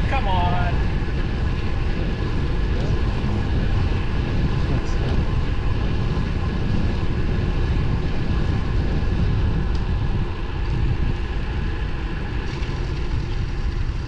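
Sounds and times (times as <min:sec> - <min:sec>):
road noise: 0:00.0 - 0:14.0
wind rushing over microphone: 0:00.0 - 0:14.0.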